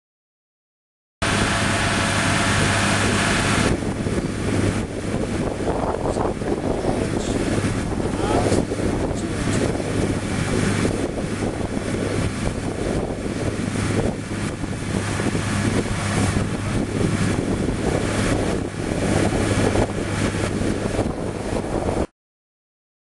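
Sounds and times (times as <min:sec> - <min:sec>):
sprayer engine humming: 0:01.2 - 0:21.9
wind on microphone: 0:01.2 - 0:22.1.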